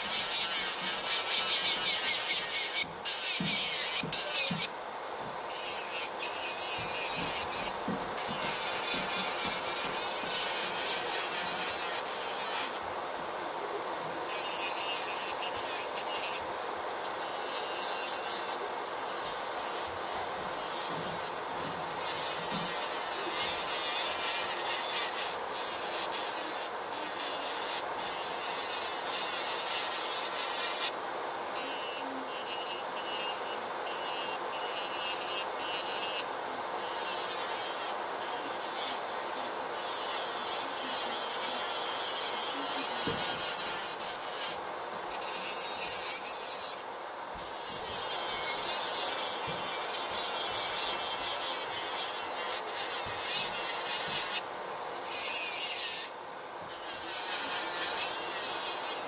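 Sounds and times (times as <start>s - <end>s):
electric nail drill grinding: 0.0s - 4.7s, 5.5s - 12.9s, 14.3s - 31.0s, 31.6s - 46.8s, 47.4s - 56.1s, 56.7s - 59.0s.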